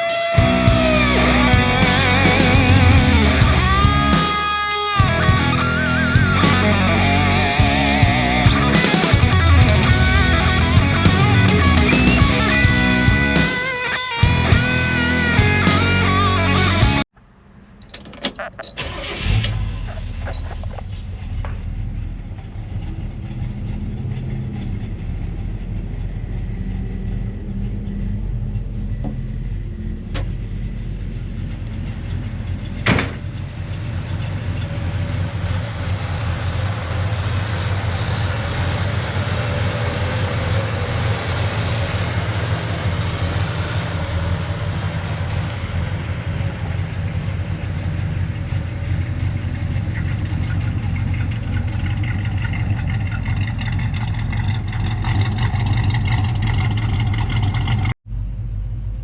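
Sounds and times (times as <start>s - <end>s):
truck engine running: 0.0s - 17.1s, 19.8s - 59.0s
road noise rushing: 0.0s - 17.8s, 18.8s - 54.0s.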